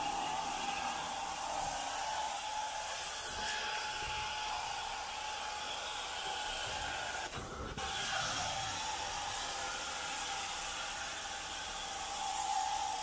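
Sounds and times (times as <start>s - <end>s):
thin steady whistle: 0.0s - 13.0s
vacuum suction and spray hiss: 0.0s - 13.0s.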